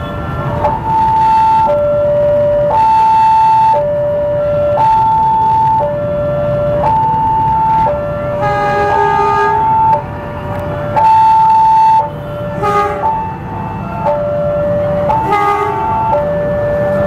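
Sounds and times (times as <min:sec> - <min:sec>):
level crossing two-tone alarm: 0:00.1 - 0:10.1, 0:10.9 - 0:17.0.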